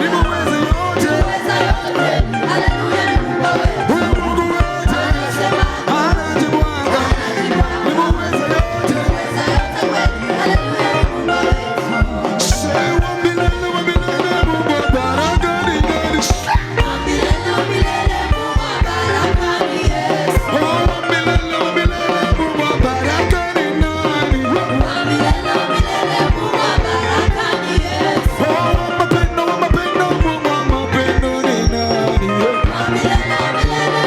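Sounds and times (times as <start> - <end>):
band playing worship music: 0.0 - 34.0
singing: 0.0 - 34.0.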